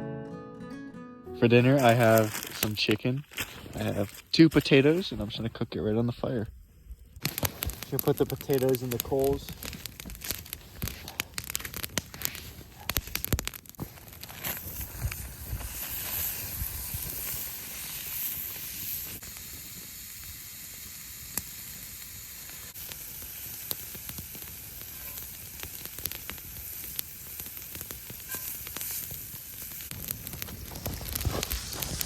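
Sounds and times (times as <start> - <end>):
fire crackles: 1.5 - 32.0
chicken sizzling on campfire: 1.6 - 32.0.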